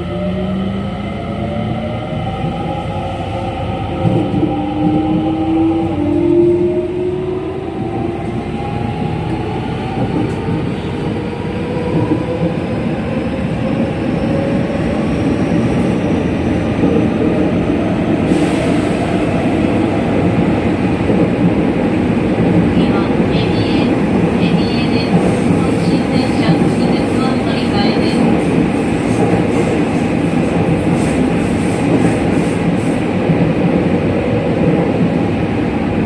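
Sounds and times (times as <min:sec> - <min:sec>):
wheels rumbling on rail: 0:00.0 - 0:36.0.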